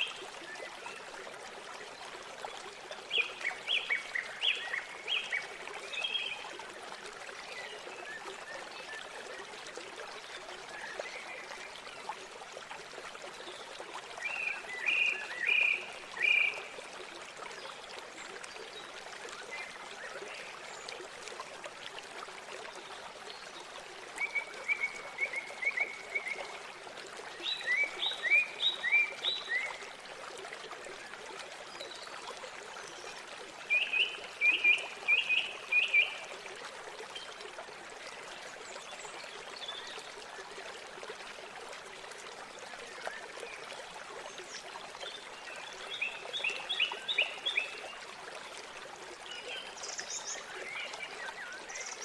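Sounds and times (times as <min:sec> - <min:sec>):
river water flowing: 0:00.0 - 0:52.0.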